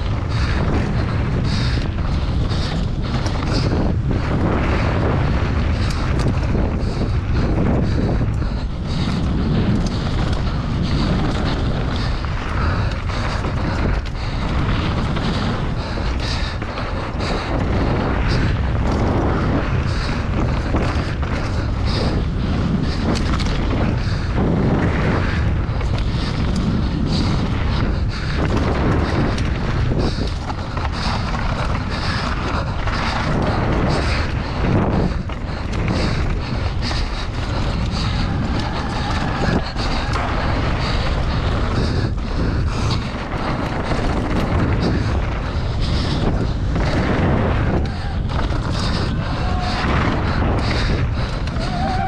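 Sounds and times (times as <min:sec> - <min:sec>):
bike clattering and rattling: 0:00.0 - 0:52.0
tyres rumbling on dirt: 0:00.0 - 0:52.0
wind buffeting microphone: 0:00.0 - 0:52.0.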